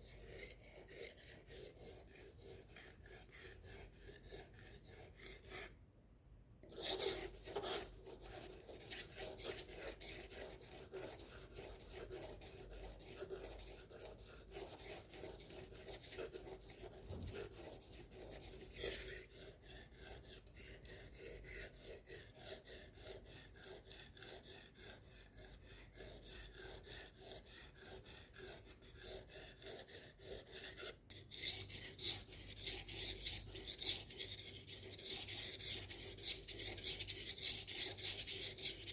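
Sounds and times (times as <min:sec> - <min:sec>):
knife rasping on a sharpener: 0:00.0 - 0:05.8, 0:06.6 - 0:38.9.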